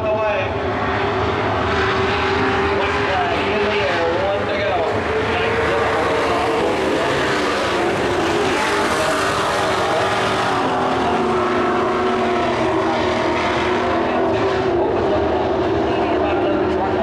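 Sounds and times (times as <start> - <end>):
race truck engines: 0.0 - 17.0.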